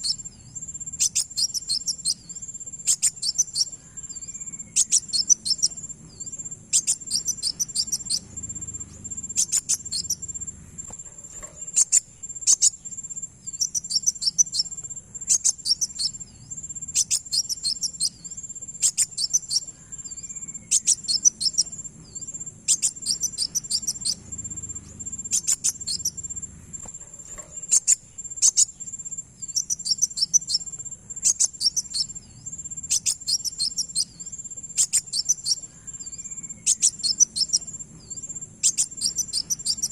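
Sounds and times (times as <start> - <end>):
bird twittering chip notes: 0.0 - 39.9.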